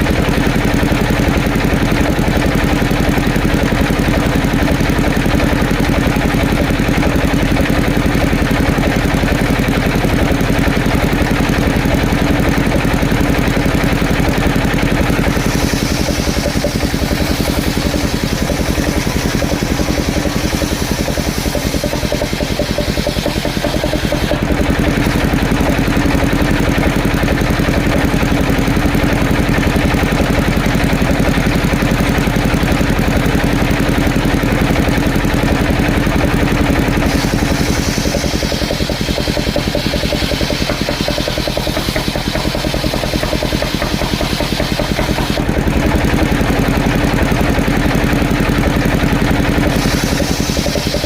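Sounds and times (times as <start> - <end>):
sawmill engine running: 0.0 - 51.0.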